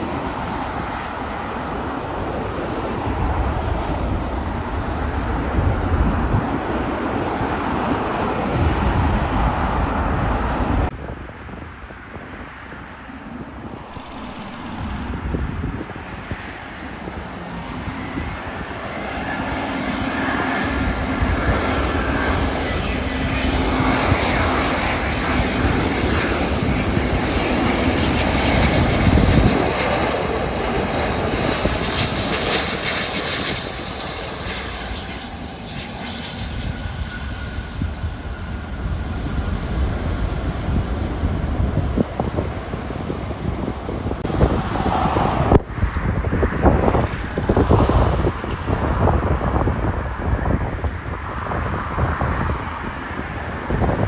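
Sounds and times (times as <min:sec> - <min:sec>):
jetliner landing roar: 0:00.0 - 0:14.4, 0:15.0 - 0:54.0.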